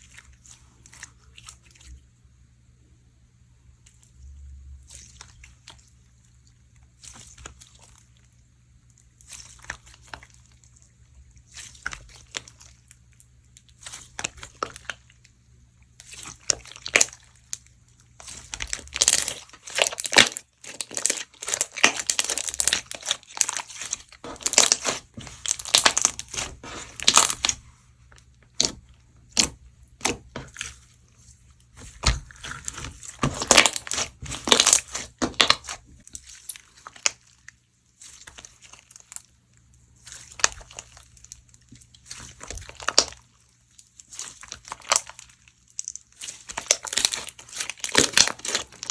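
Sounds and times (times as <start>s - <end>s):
slime crackling and crunching: 4.0s - 48.9s.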